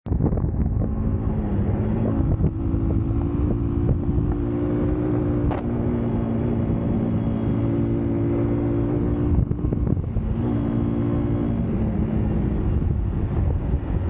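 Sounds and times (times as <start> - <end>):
motorcycle engine rumbling: 0.0 - 14.0
wind noise on microphone: 0.0 - 14.0.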